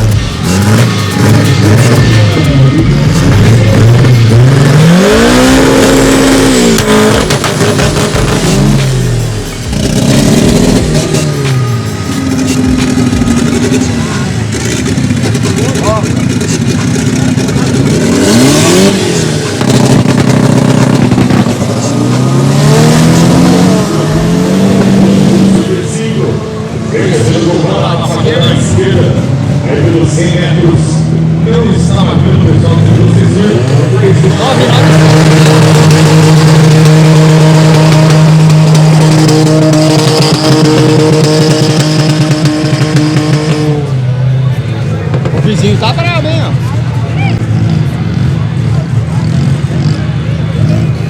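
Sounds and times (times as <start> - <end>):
racing car engine revving: 0.0 - 51.0.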